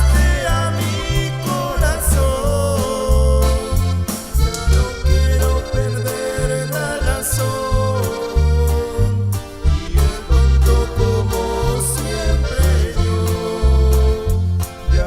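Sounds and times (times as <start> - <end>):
accordion: 0.0 - 15.0
rhythmic bass line: 0.0 - 15.0.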